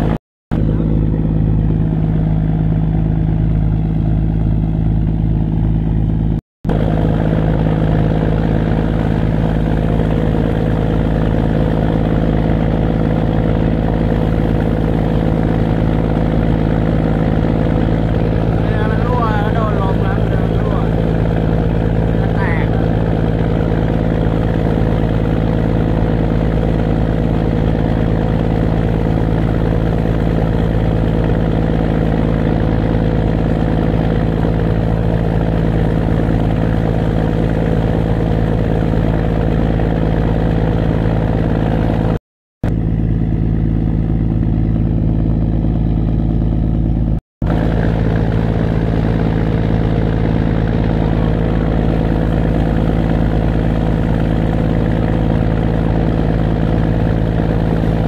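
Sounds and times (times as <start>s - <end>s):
boat engine humming: 0.0s - 58.0s.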